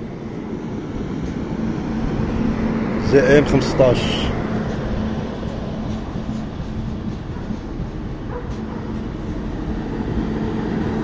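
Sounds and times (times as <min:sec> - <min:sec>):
electric train running on rails: 0:00.0 - 0:11.0.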